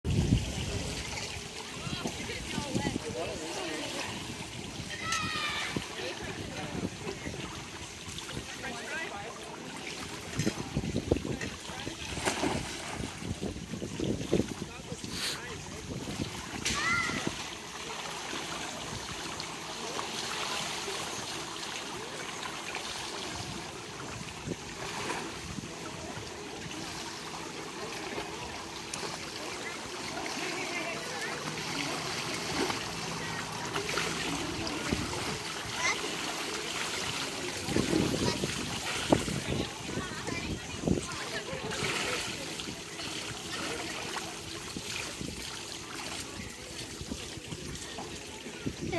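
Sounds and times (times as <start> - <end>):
pool water trickling and lapping: 0.0 - 48.9.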